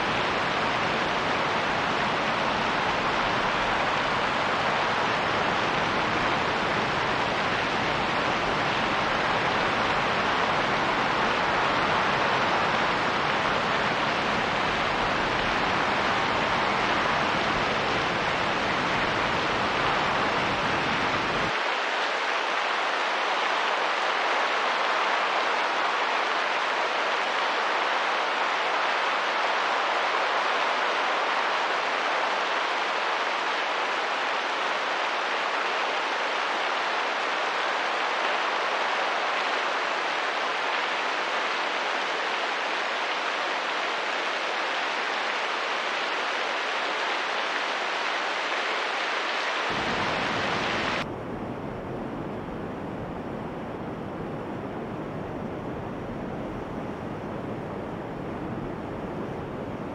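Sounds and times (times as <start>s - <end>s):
steady rain and wind: 0.0s - 59.9s.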